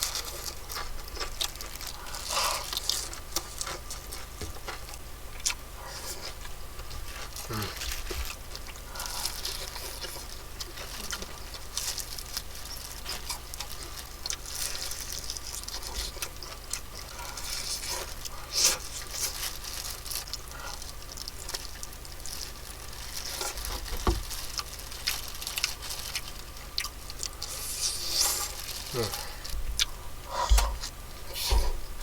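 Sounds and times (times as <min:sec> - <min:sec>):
chewing crispy food: 0:00.0 - 0:32.0.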